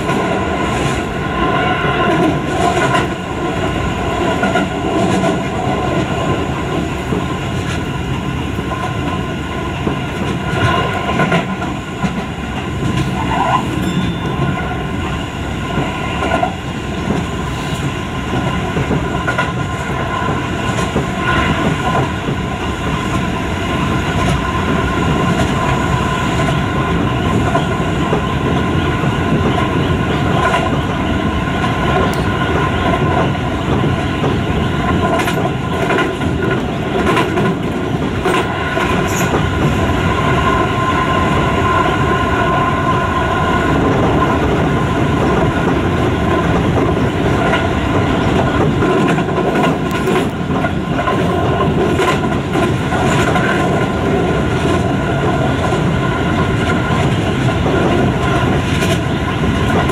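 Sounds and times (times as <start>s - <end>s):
rail clicks: 0.0s - 59.9s
steady train whine: 0.0s - 59.9s
train wheels rumbling on rail: 0.0s - 59.9s.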